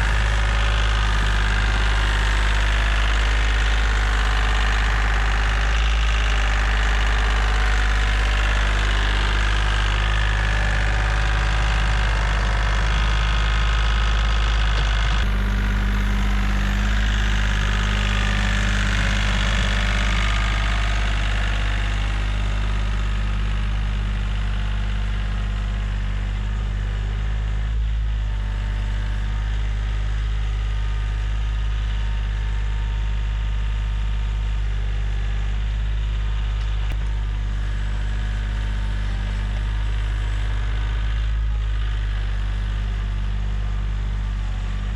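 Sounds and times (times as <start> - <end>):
diesel tractor engine idling: 0.0 - 44.9.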